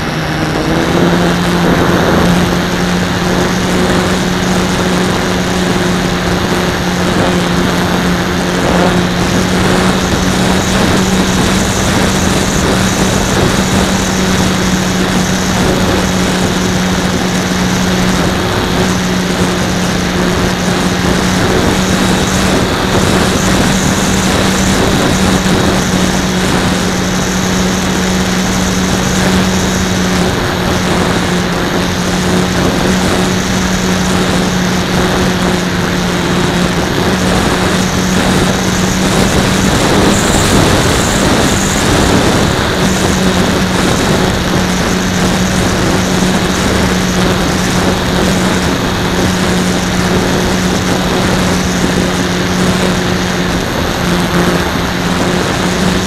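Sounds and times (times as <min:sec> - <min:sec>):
model plane propeller drone: 0:00.0 - 0:56.0
wind noise on microphone: 0:00.0 - 0:56.0.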